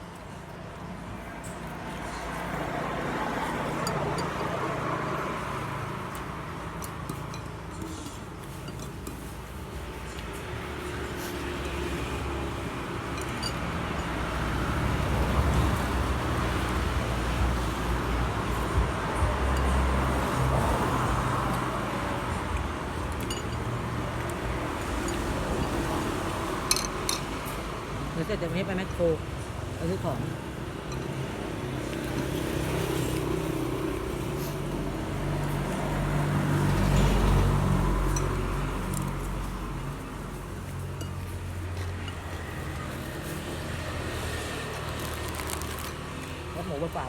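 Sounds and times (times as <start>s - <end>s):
traffic noise with low hum: 0.0s - 47.0s
vehicle passing on road: 1.1s - 8.7s, 9.3s - 47.0s.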